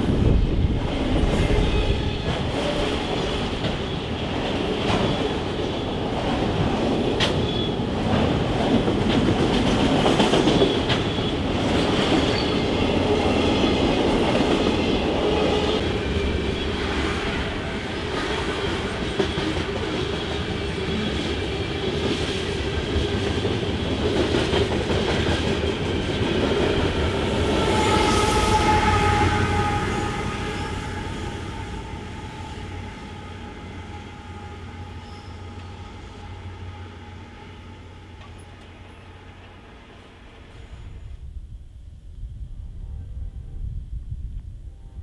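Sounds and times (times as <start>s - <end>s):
rumble of train cars: 0.0s - 45.0s.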